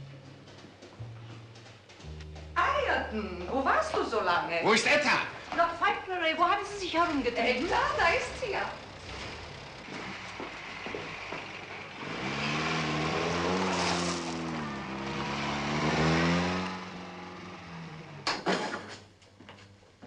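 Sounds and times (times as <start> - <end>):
car engine accelerating: 0.0 - 18.5.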